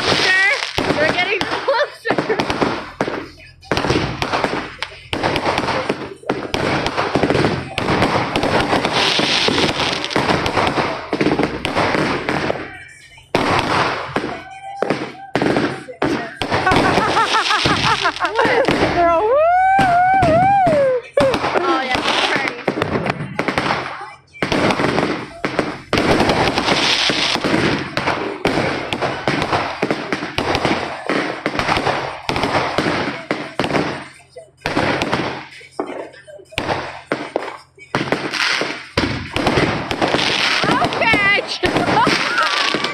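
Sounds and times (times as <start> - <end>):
fireworks cracking and popping: 0.0 - 42.9.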